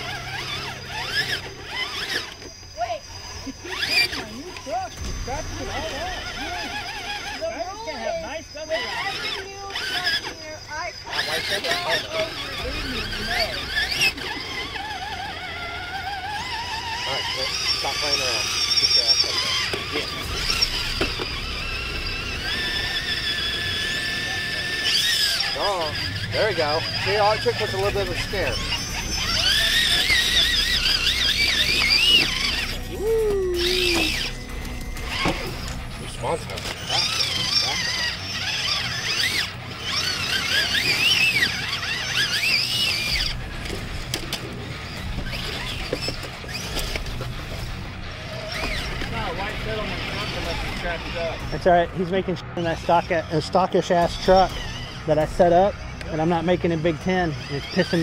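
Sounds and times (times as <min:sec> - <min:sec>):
electric motor and gears whining: 0:00.0 - 0:58.0.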